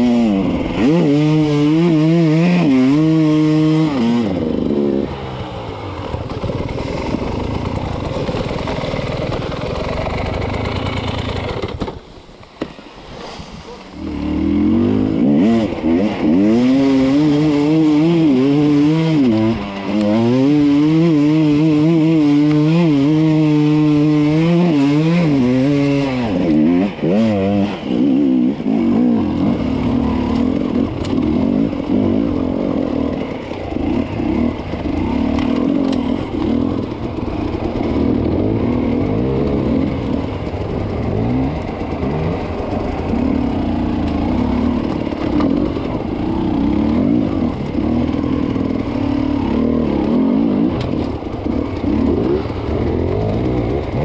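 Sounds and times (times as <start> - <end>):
dirt bike engines with throttle blips: 0.0 - 54.0.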